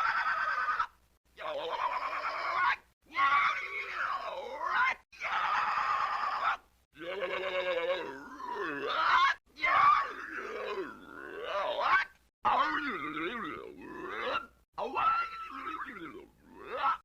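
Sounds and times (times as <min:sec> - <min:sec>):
person screaming: 0:00.0 - 0:13.0, 0:13.8 - 0:17.0.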